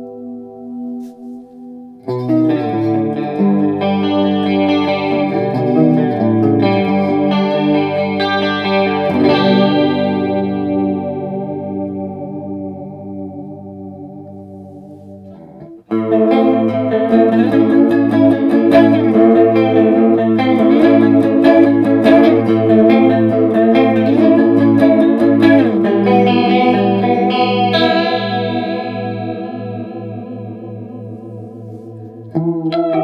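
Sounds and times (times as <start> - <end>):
electric guitar chords with chorus: 0.0 - 33.0.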